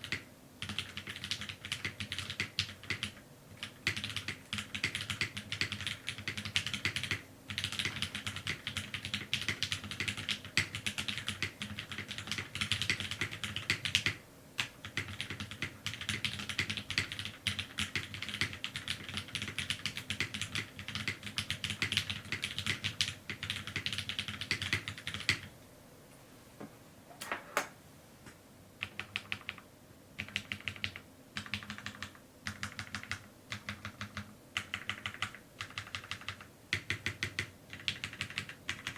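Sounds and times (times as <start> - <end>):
mechanical keyboard typing: 0.0 - 25.5, 28.8 - 29.6, 30.2 - 38.9.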